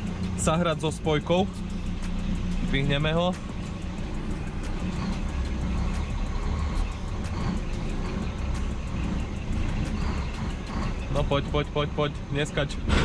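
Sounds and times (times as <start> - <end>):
diesel truck engine at low revs: 0.0 - 13.0.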